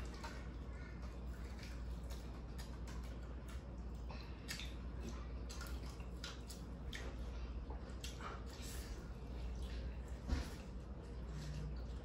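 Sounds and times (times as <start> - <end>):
people chewing and lip-smacking: 0.0 - 12.0
steady low hum: 0.0 - 12.0.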